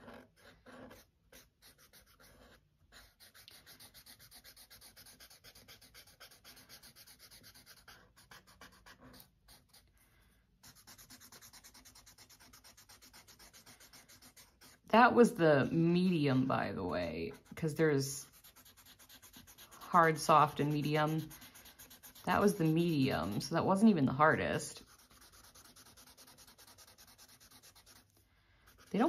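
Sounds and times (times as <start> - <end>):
pencil scratching on paper: 0.0 - 29.0.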